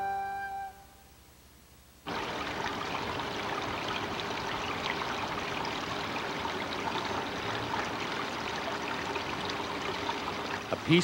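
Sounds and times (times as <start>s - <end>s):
water splashing and trickling: 2.1s - 11.0s.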